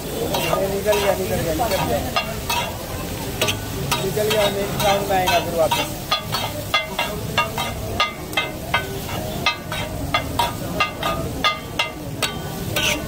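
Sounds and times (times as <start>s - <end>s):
food sizzling: 0.0s - 13.0s
metal spatulas clanking on griddle: 0.1s - 13.0s.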